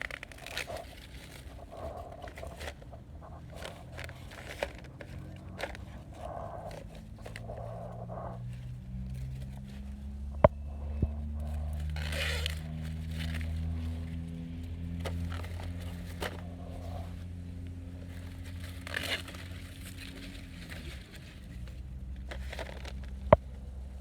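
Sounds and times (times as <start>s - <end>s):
corn leaves rustling and crackling: 0.0s - 24.0s
low hum: 0.0s - 24.0s.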